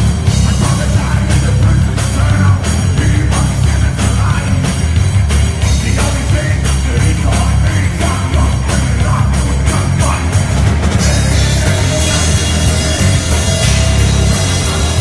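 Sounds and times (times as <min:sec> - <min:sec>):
bass guitar: 0:00.0 - 0:15.0
drum hits: 0:00.0 - 0:15.0
rock band playing live: 0:00.0 - 0:15.0.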